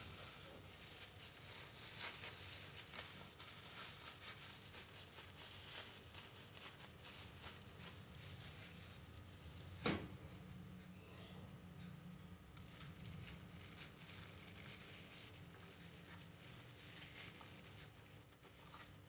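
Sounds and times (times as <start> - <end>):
small clicks and crackles: 0.0 - 9.8, 11.7 - 19.0
leaf crinkling and rustling: 0.0 - 9.9, 12.4 - 19.0.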